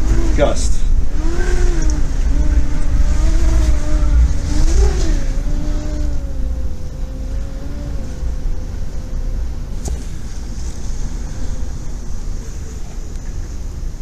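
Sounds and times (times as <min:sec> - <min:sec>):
heavy low rumble: 0:00.0 - 0:14.0
wind gust howling whistle: 0:00.0 - 0:14.0.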